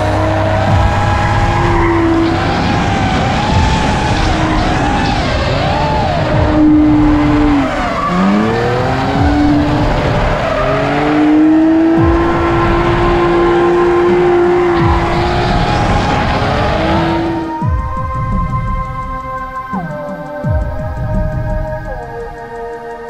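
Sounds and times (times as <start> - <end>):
car engine revving: 0.0 - 22.4.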